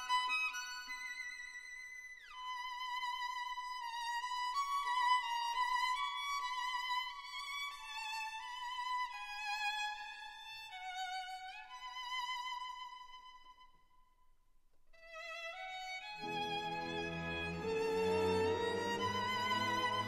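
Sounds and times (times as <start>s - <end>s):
solo violin slow melody: 0.0s - 13.7s, 15.0s - 20.0s.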